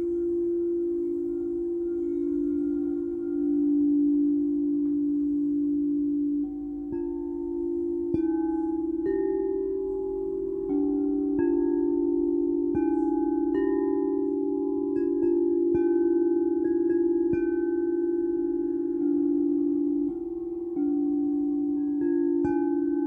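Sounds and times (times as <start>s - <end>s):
singing bowls ringing: 0.0s - 23.0s.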